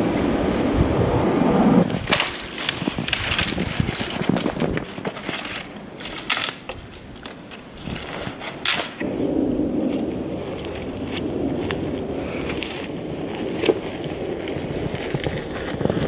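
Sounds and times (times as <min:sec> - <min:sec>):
wind on microphone: 0:00.0 - 0:16.0
snow and brush crunching underfoot: 0:01.8 - 0:16.0.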